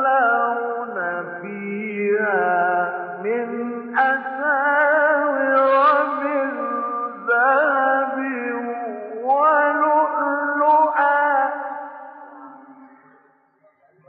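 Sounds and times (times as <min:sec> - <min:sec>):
man chanting recitation: 0:00.0 - 0:14.0.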